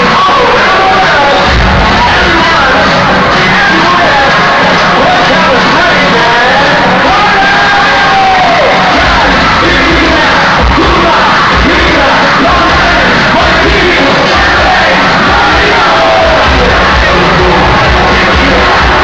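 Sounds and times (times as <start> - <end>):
dance music with pulsing bass: 0.0 - 19.0
people yelling: 0.0 - 19.0.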